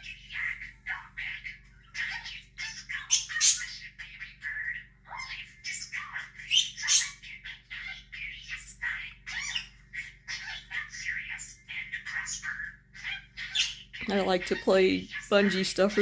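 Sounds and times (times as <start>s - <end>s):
budgerigar chattering: 0.0s - 16.0s
budgerigar squawks: 0.0s - 16.0s.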